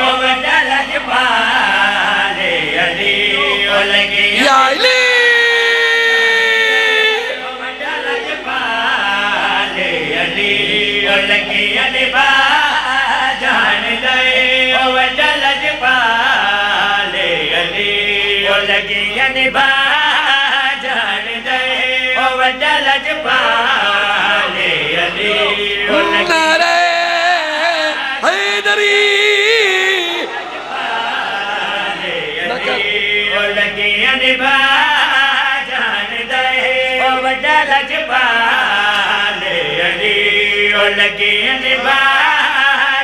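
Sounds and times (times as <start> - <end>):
men singing into microphones: 0.0 - 43.0.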